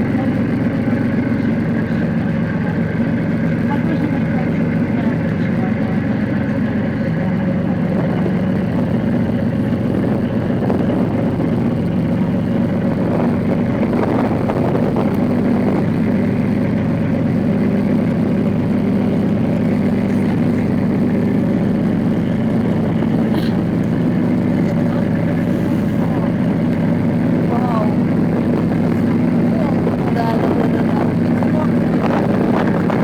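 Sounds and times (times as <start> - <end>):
motor boat engine humming: 0.0 - 33.0.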